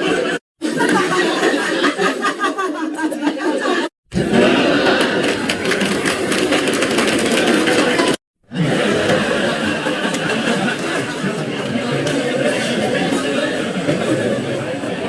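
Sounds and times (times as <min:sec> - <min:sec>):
crowd laughing and chattering: 0:00.0 - 0:15.0.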